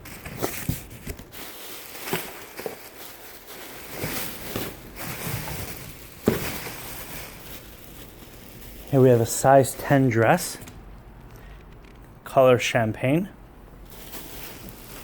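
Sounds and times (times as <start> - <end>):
rustling of packaging: 0.0 - 12.1, 13.8 - 15.0.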